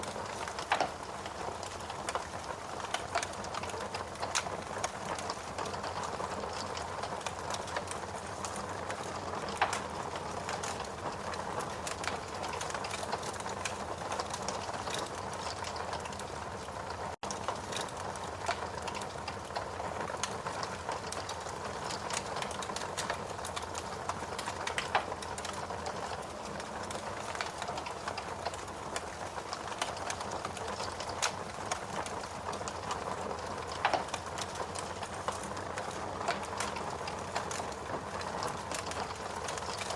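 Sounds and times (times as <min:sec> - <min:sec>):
fire crackling and popping: 0:00.0 - 0:39.9
steady rain: 0:00.0 - 0:39.9.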